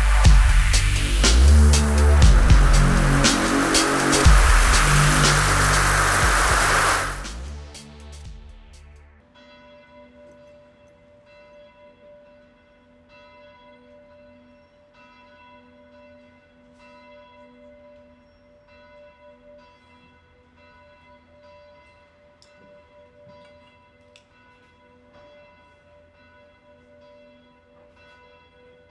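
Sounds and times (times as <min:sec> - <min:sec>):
church bell tolling: 0:00.0 - 0:07.2, 0:09.3 - 0:28.9.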